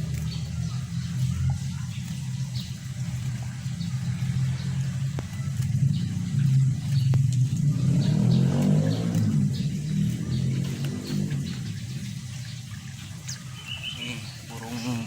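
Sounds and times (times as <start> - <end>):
motor engine running: 0.0 - 15.0
small birds chirping: 0.0 - 15.0.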